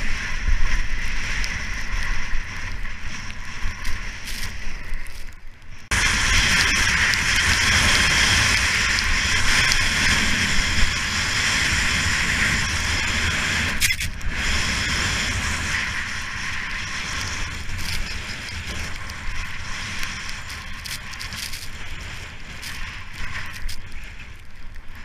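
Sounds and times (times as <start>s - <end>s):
skis scraping over snow: 0.0s - 25.0s
wind rumbling on microphone: 0.0s - 25.0s.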